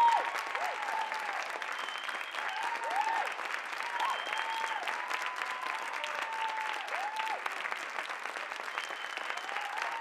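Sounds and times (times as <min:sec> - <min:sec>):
cheering calls: 0:00.0 - 0:07.5, 0:08.8 - 0:10.0
audience applauding: 0:00.0 - 0:10.0.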